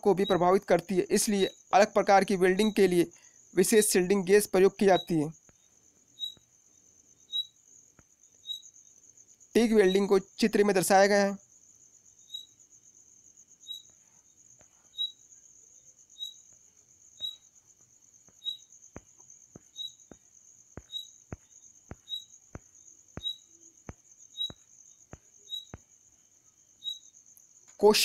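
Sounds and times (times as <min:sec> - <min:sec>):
cricket trill: 0:00.0 - 0:28.0.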